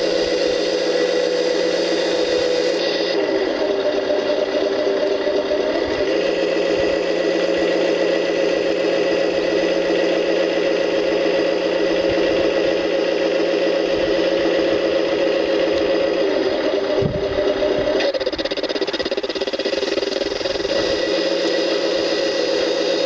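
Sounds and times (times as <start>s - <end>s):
diesel engine sound through small speaker: 0.0s - 23.0s.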